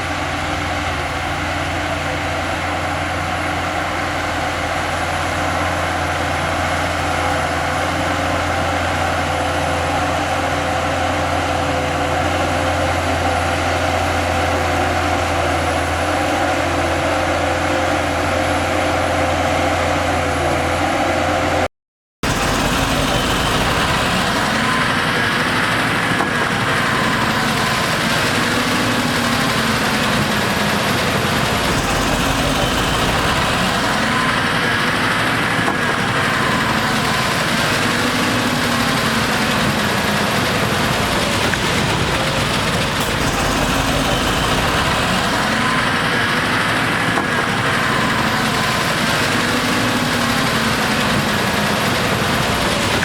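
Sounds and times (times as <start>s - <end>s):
heavy diesel engine working: 0.0s - 53.0s.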